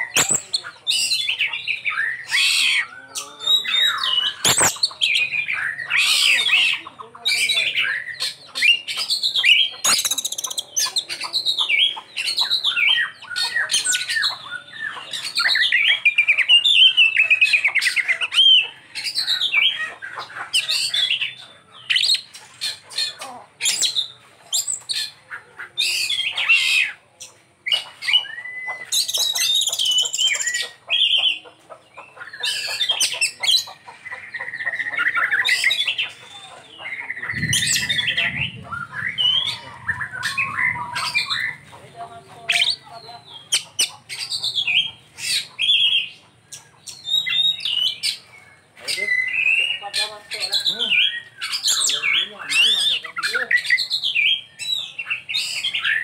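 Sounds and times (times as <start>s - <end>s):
magpie-robin singing: 0.0s - 56.0s.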